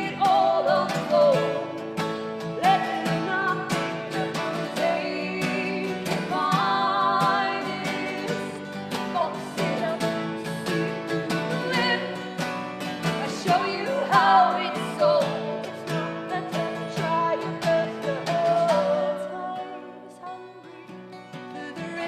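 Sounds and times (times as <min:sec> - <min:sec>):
acoustic guitars playing: 0:00.0 - 0:22.0
person singing: 0:00.0 - 0:22.0.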